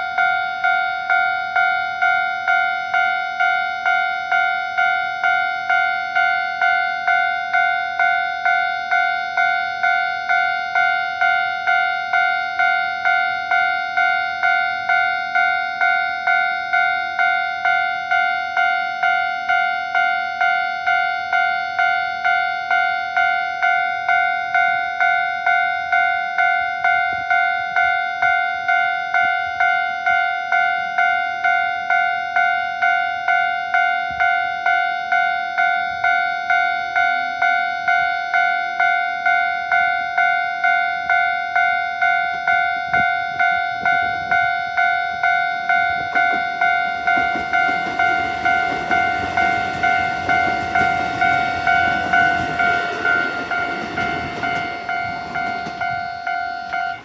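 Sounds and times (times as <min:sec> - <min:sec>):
level crossing two-tone alarm: 0:00.0 - 0:57.0.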